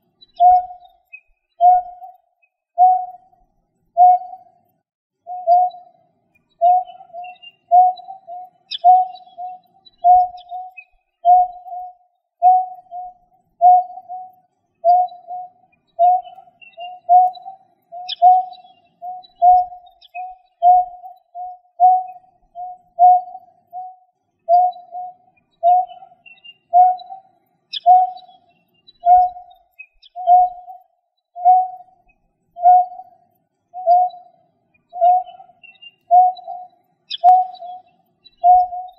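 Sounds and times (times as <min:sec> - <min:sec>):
faint high bird chirps: 0:00.0 - 0:38.9.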